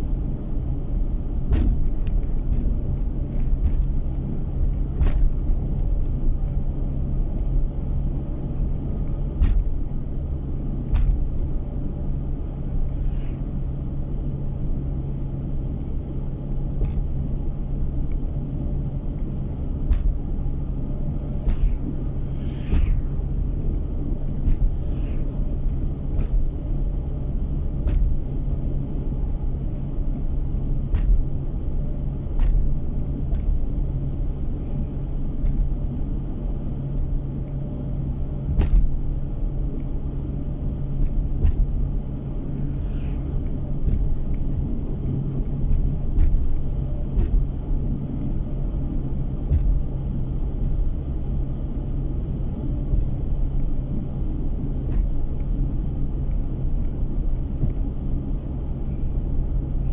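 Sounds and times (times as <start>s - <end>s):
car cabin engine and road rumble: 0.0s - 59.9s.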